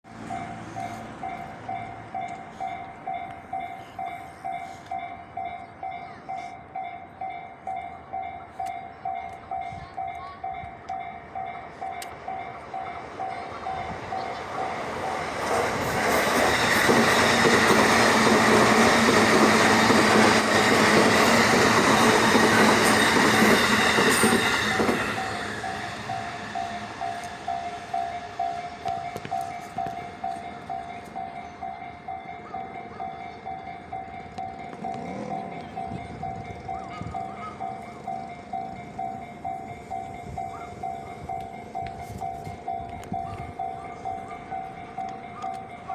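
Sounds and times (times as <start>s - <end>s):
level crossing warning bell: 0.1s - 45.9s
train passing: 0.1s - 45.9s.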